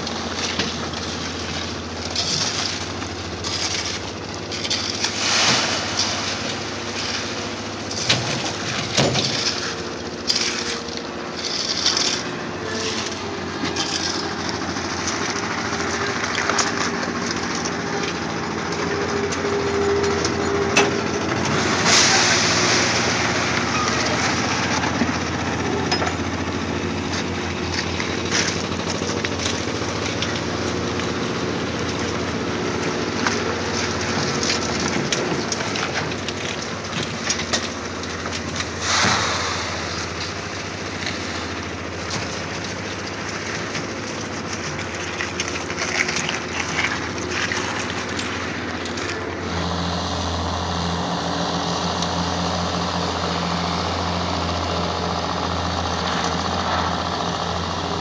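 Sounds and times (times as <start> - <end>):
shovels scraping wet concrete: 0.0 - 26.2, 27.0 - 50.3
engine running: 0.0 - 58.0.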